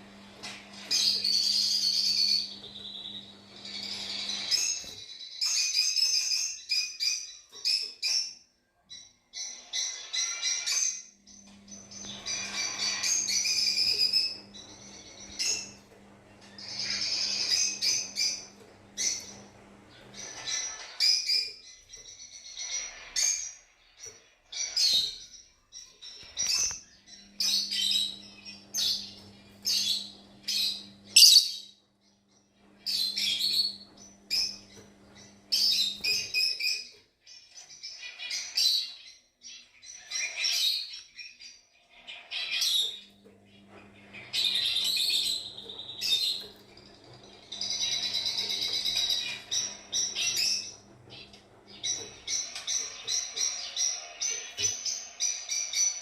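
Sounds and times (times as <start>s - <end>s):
lovebirds chirping: 0.1s - 56.0s.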